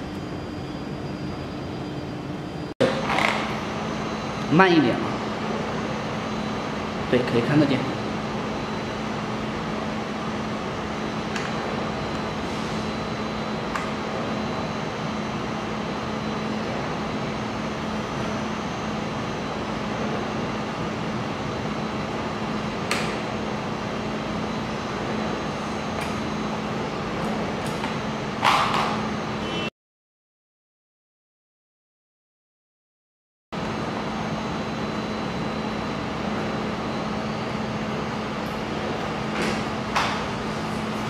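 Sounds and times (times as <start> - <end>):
welding machine hum and fan: 0.0 - 29.7, 33.6 - 41.0.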